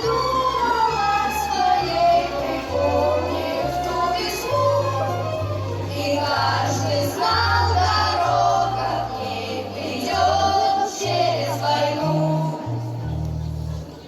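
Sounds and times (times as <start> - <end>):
voices singing: 0.0 - 13.6
bass accompaniment: 0.0 - 14.0.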